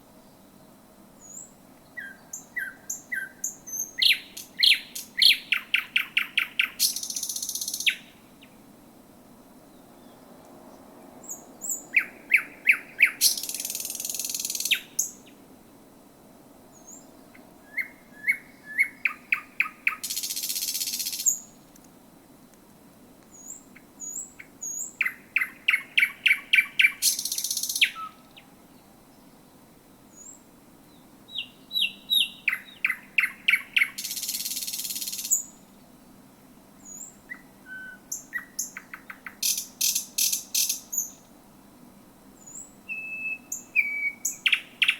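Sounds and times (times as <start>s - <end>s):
nightingale singing: 1.2s - 8.6s, 9.7s - 15.4s, 16.7s - 21.7s, 23.3s - 36.0s, 36.8s - 41.3s, 42.4s - 44.9s.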